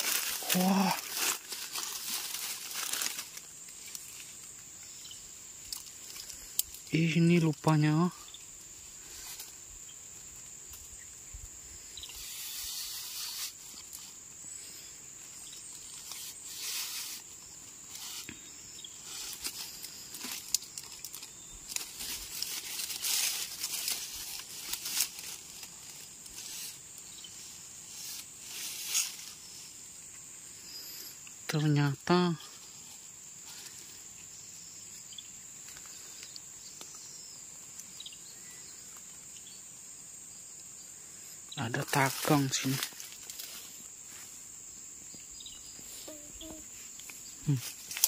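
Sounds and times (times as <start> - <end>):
crackles in dry leaves: 0.0 - 48.0
insect buzzing: 0.0 - 48.0.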